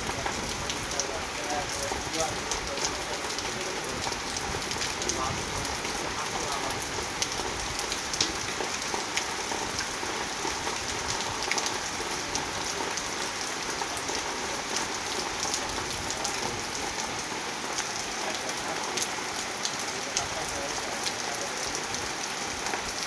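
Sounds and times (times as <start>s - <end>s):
raindrops ticking on a surface: 0.0s - 23.0s
steady rain falling: 0.0s - 23.0s.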